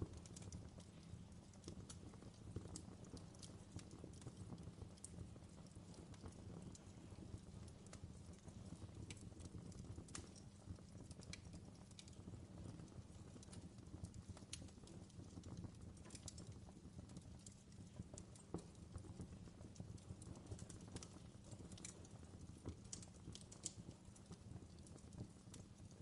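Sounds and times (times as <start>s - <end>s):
fireplace fire crackling: 0.0s - 26.0s.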